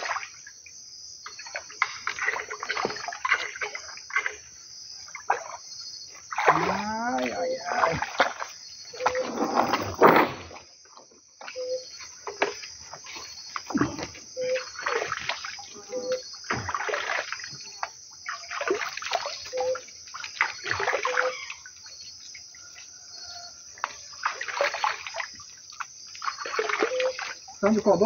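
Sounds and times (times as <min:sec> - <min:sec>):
river water splashing: 0:00.0 - 0:00.5, 0:01.3 - 0:10.6, 0:11.4 - 0:22.7, 0:23.8 - 0:28.0.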